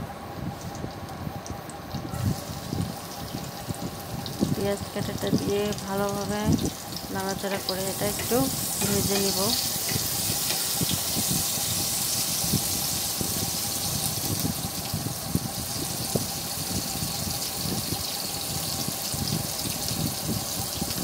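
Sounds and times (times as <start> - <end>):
onions sizzling in oil: 0.5 - 21.0.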